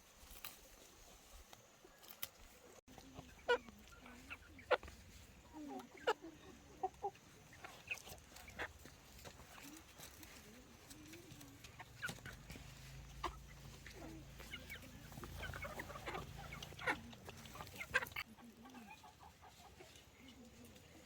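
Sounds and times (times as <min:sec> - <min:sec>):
chickens clucking: 0:01.8 - 0:21.0.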